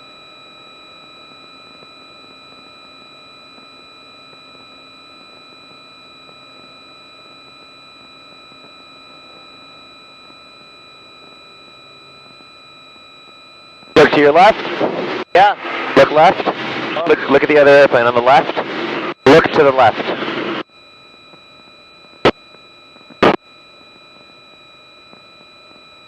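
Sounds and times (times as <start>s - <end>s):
high-pitched electrical whine: 0.0s - 26.0s.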